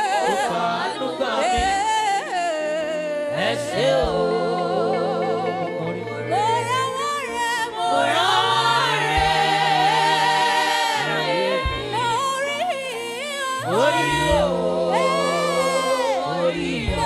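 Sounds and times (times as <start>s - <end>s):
person singing gospel: 0.0s - 17.0s
sustained backing chord: 2.9s - 17.0s.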